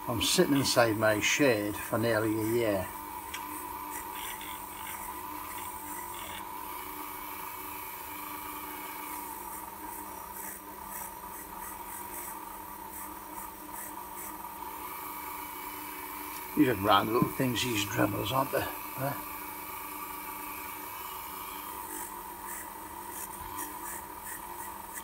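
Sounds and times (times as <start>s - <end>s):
rotary tool whining: 0.0s - 25.0s.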